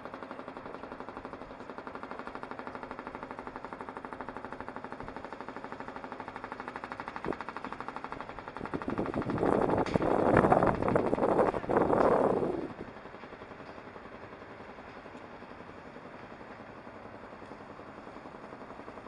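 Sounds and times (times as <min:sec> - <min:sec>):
machine pulsing over low hum: 0:00.0 - 0:19.0.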